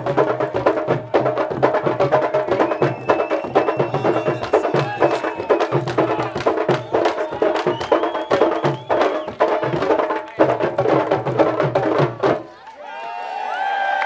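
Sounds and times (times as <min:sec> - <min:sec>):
hand-struck drums: 0:00.0 - 0:12.5.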